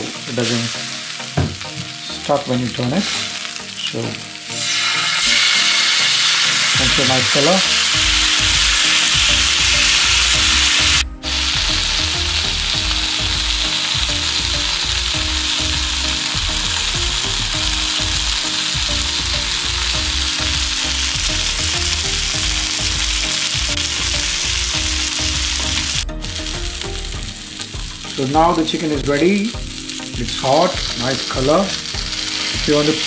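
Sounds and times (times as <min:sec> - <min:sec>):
meat sizzling on grill pan: 0:00.1 - 0:33.0.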